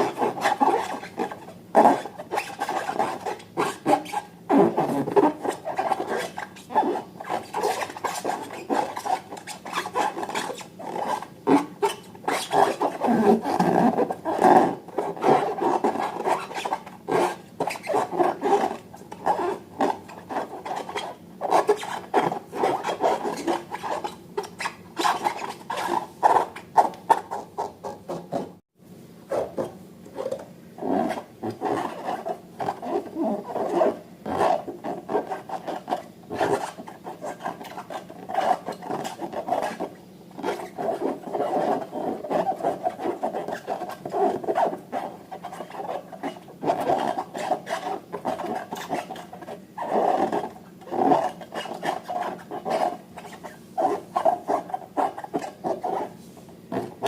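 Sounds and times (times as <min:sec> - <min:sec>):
balloon rubber and slime squeaking: 0:00.0 - 0:28.6, 0:29.3 - 0:57.0.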